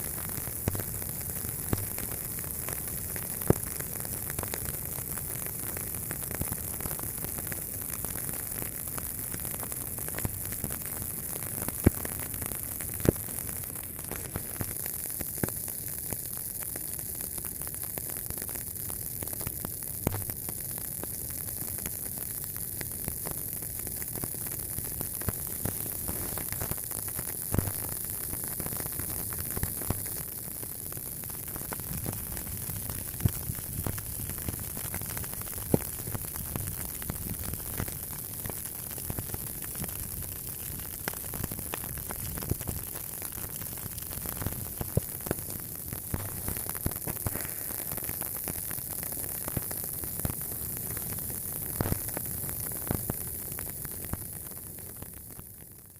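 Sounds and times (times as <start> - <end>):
fire crackling: 0.0 - 55.9.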